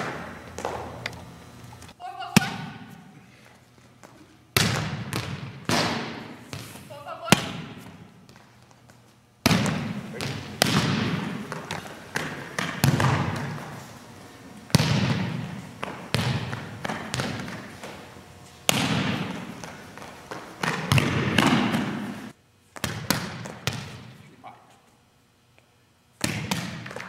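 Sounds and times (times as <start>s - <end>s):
volleyball smacks echoing in gym: 0.0s - 1.1s, 2.3s - 3.3s, 4.0s - 24.5s, 26.1s - 27.0s.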